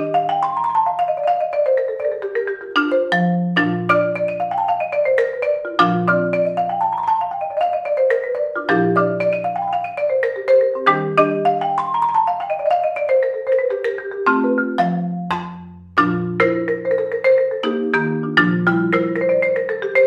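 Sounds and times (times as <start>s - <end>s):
marimba fast runs: 0.0s - 20.0s.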